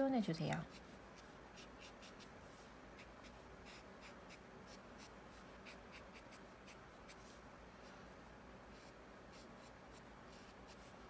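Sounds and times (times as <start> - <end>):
brush pen scratching on paper: 0.6 - 2.3, 3.0 - 7.9, 8.7 - 11.0.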